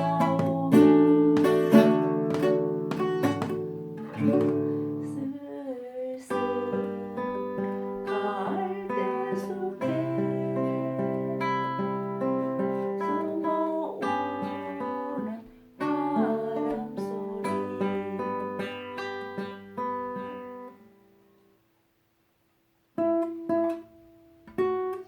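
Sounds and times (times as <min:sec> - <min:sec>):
acoustic guitar chords: 0:00.0 - 0:21.6.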